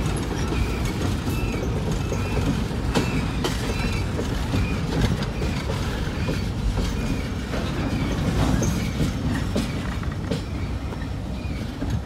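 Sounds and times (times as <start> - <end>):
wheel squeals: 0.0 - 11.7
freight cars rumbling on rails: 0.0 - 12.0
wheel clacks over rail joints: 0.0 - 12.0.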